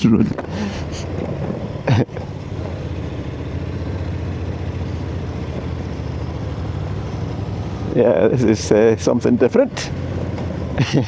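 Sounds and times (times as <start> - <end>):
road and wind noise: 0.0 - 11.0
motorcycle engine running: 0.3 - 11.0.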